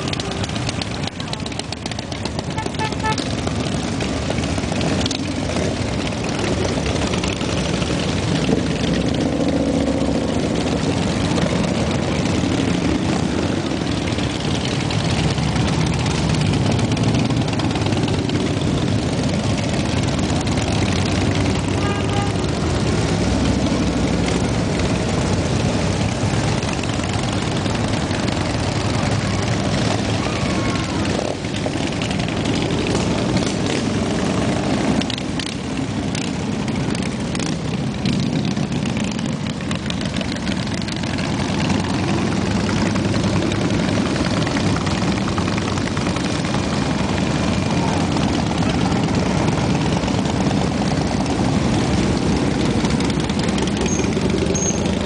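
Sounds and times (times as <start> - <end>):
motorcycles rumbling past: 0.0 - 55.0
semi-truck passing: 0.0 - 55.0.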